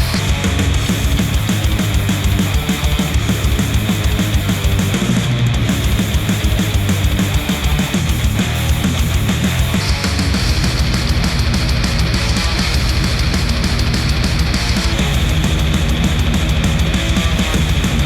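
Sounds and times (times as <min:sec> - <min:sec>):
music with fast drum beat: 0:00.0 - 0:18.0.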